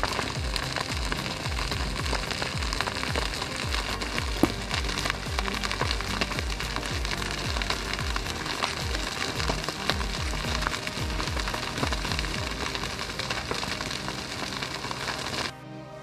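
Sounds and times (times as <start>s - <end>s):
crackling hissing layer: 0.0s - 15.5s
electronic music with bass hits: 0.0s - 16.0s.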